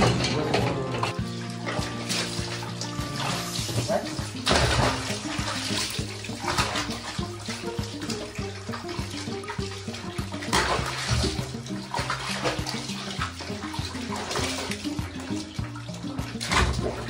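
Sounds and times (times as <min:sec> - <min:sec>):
background music: 0:00.0 - 0:17.0
hand sloshing water: 0:00.0 - 0:17.0
tap water pouring: 0:00.0 - 0:17.0
water splashing in plastic basin: 0:00.0 - 0:17.0.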